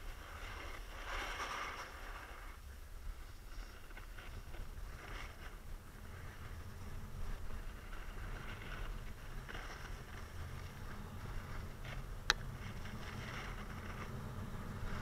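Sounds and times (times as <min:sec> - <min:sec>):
snowboard scraping on snow: 0:00.0 - 0:15.0
wind rumble on microphone: 0:00.0 - 0:15.0.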